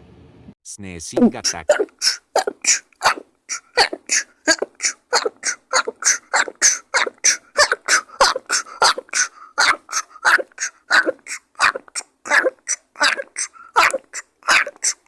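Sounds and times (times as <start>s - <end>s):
person sneezing rapidly: 1.2s - 15.0s.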